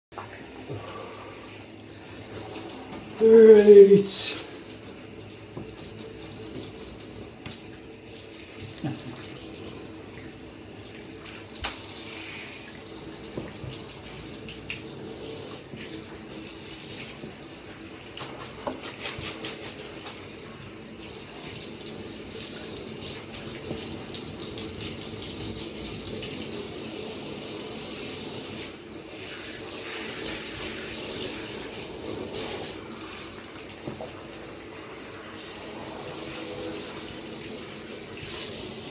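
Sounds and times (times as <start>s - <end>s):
tap water running into bath: 0.1s - 38.9s.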